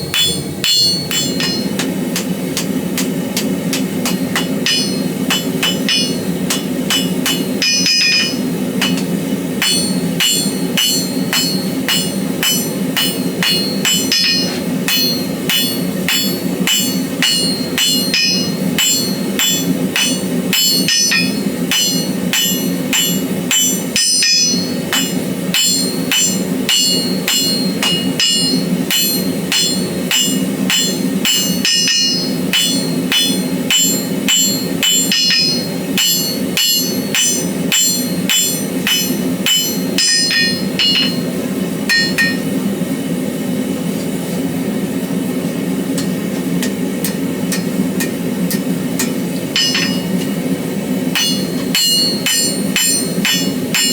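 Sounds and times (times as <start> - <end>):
hammer ringing on anvil: 0.0 - 42.6, 46.0 - 53.9
steady low hum: 0.0 - 53.9.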